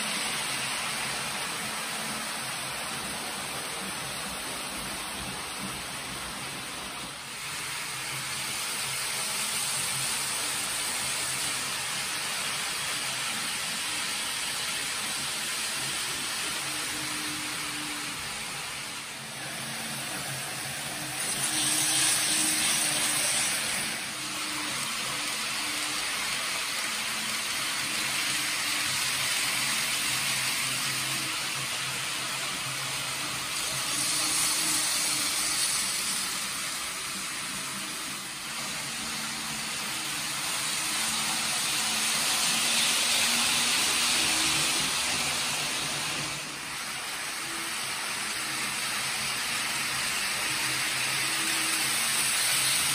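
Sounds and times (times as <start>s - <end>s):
model trains whirring on track: 0.0s - 52.9s.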